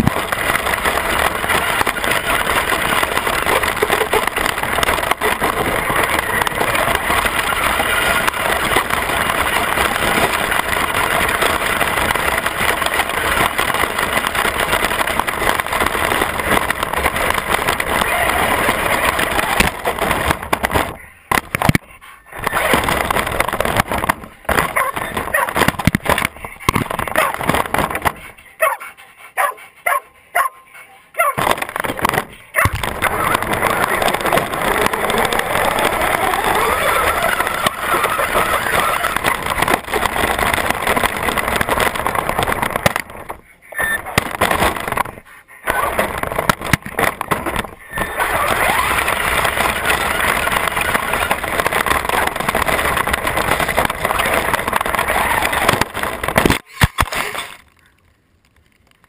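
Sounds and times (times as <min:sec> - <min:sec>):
toy truck motor running: 0:00.0 - 0:28.5, 0:31.9 - 0:56.5.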